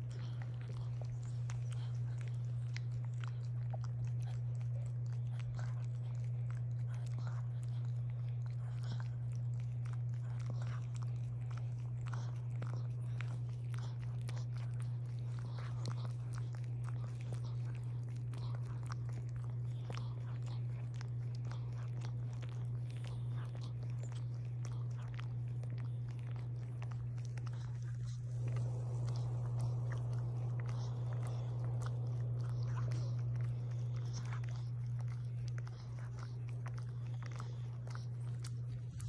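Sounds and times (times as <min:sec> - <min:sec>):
dog licking and nibbling: 0:00.0 - 0:39.0
steady low hum: 0:00.0 - 0:39.0.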